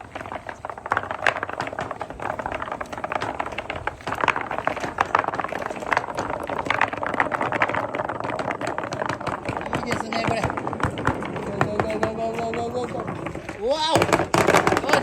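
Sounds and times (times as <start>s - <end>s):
marbles clattering down a marble run: 0.0s - 15.0s.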